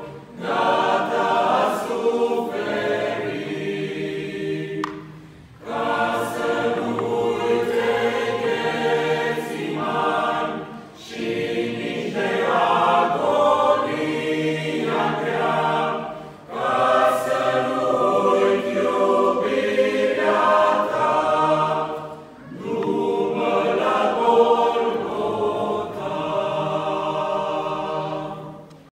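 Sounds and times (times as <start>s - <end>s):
choir breaths: 0.0s - 28.9s
mixed choir singing a hymn: 0.0s - 28.9s.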